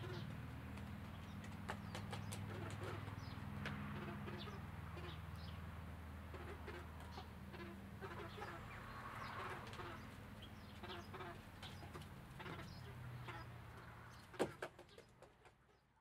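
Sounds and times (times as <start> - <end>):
chicks clucking and peeping: 0.0 - 5.6, 6.2 - 15.8.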